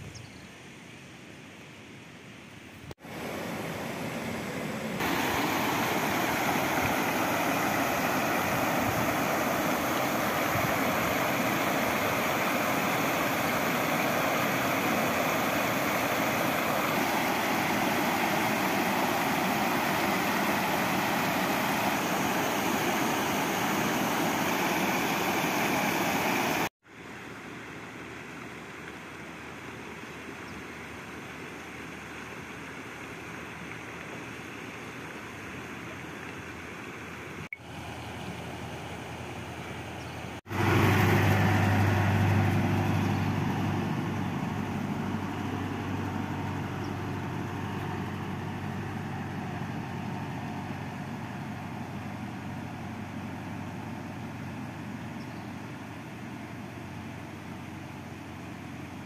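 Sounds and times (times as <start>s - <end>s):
water rushing over weir: 2.9s - 59.0s.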